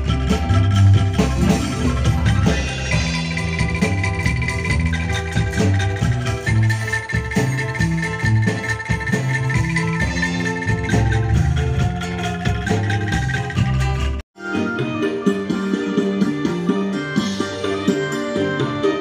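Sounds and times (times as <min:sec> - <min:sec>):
live band music through loudspeakers: 0:00.0 - 0:19.0.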